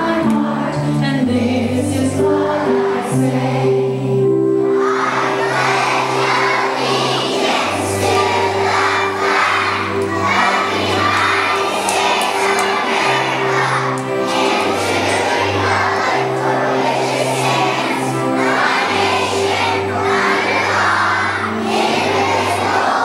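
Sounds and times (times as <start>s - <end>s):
children singing together: 0.0s - 23.0s
musical accompaniment: 0.0s - 23.0s.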